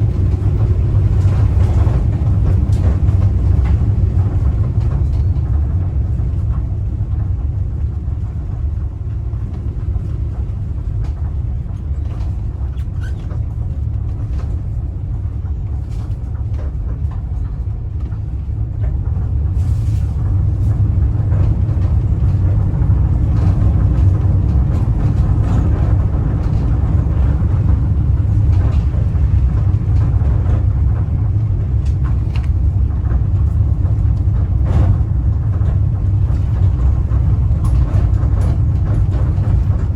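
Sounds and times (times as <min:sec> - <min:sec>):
van driving rumble from inside: 0:00.0 - 0:39.9.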